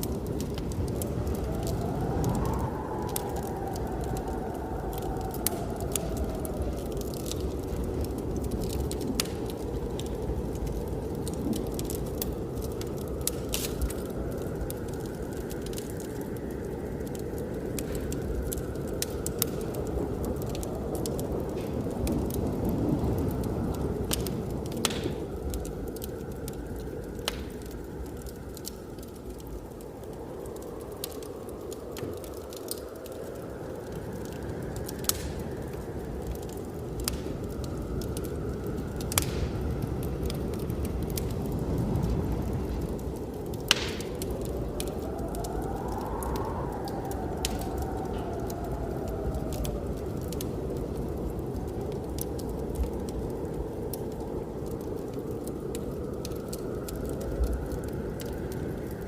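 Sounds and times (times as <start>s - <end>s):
blizzard wind rushing: 0.0s - 59.0s
wood fire crackling and popping: 0.0s - 59.0s.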